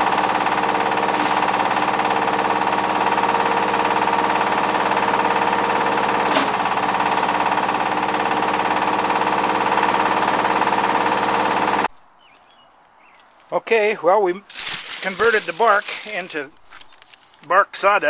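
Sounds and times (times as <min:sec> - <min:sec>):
hammer mill grinding bark: 0:00.0 - 0:11.9, 0:13.5 - 0:18.0.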